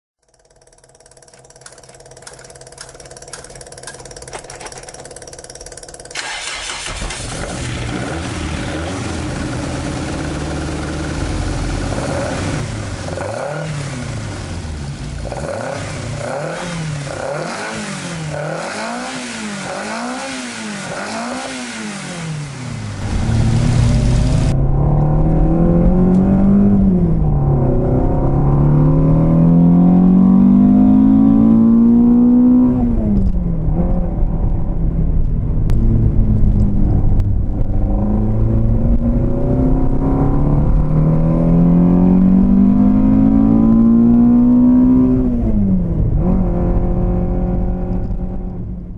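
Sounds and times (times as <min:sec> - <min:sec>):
car engine idling and revving: 0:00.2 - 0:48.9
car engine starting: 0:00.2 - 0:48.9
engine accelerating at full throttle: 0:00.6 - 0:48.9.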